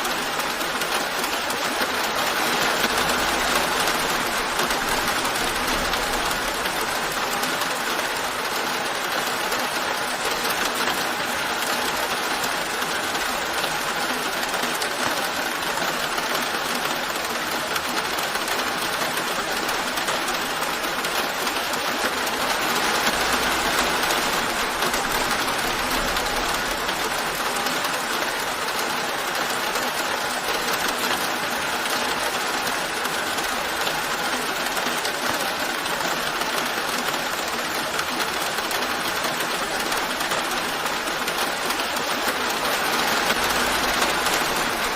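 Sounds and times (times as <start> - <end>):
steady rain patter: 0.0 - 44.9.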